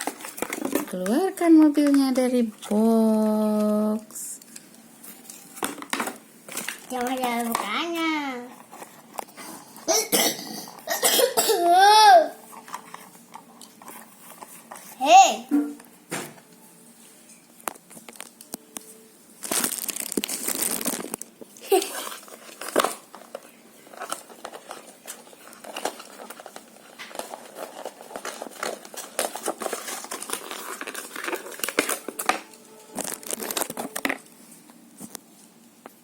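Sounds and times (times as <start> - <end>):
packaging crinkling and rustling: 0.0 - 10.0, 12.4 - 15.1, 17.5 - 36.0.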